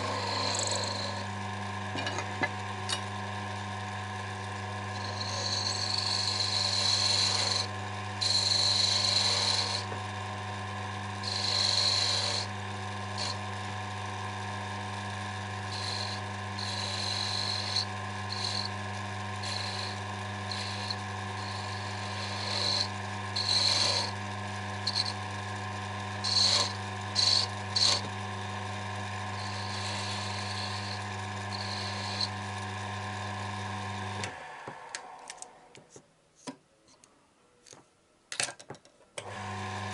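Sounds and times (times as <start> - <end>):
turning tool scraping wood: 0.0 - 3.2, 4.2 - 10.2, 10.8 - 34.3
lathe motor hum: 0.0 - 35.7, 39.2 - 39.9.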